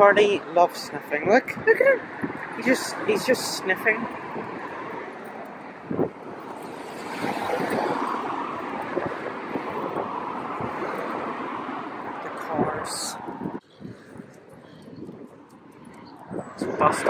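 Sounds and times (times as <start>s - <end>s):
road traffic rushing by: 0.0s - 17.0s
wind buffeting microphone: 0.0s - 17.0s.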